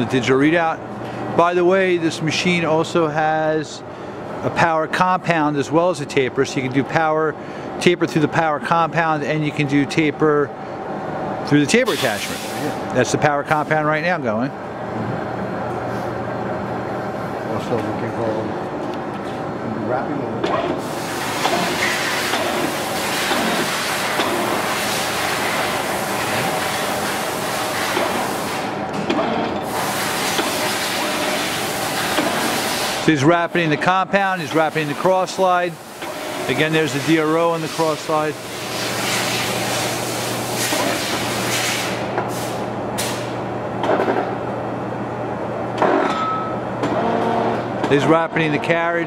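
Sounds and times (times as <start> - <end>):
lathe mechanical hum: 0.0 - 49.0.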